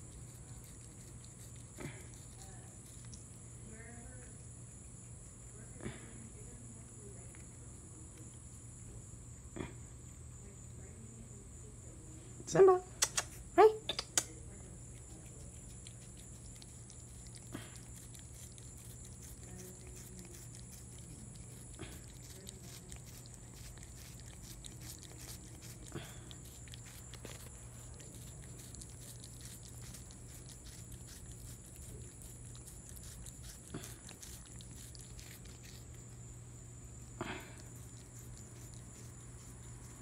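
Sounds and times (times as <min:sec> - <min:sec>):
cat licking and chewing: 0:00.0 - 0:10.8, 0:12.9 - 0:40.0
steady low hum: 0:00.0 - 0:40.0.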